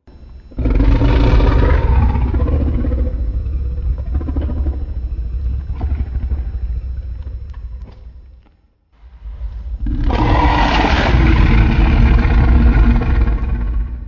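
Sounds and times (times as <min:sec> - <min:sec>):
loud deep rumble: 0:00.0 - 0:08.3, 0:09.2 - 0:14.0.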